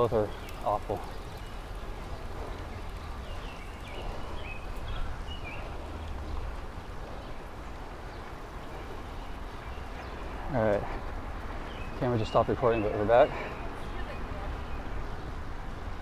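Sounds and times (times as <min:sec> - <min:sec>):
wind and bicycle ride rumble: 0:00.0 - 0:16.0.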